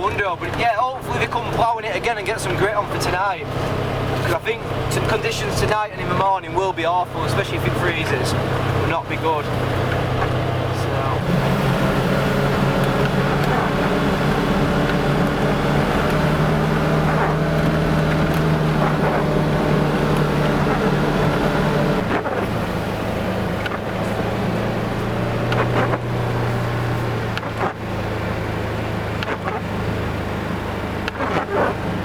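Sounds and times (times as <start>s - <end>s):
vehicle engine running under load: 0.0s - 32.0s.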